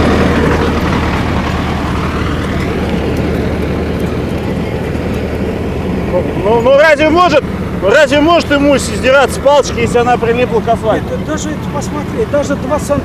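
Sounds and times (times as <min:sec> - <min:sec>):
large vehicle engine droning: 0:00.0 - 0:13.0
street noise: 0:00.0 - 0:13.0.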